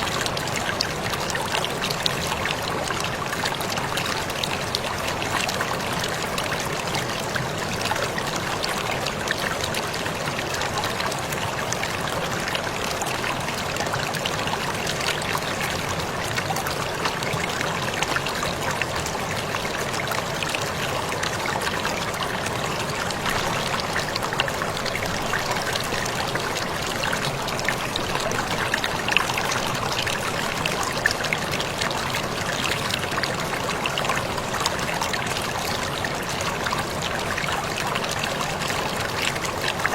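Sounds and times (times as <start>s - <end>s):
waterfall pouring: 0.0s - 39.9s.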